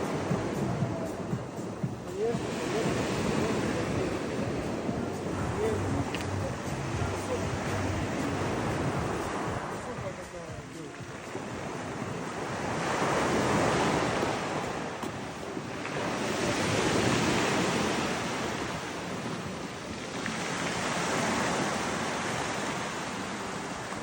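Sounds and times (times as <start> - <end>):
waves breaking on beach: 0.0 - 24.0.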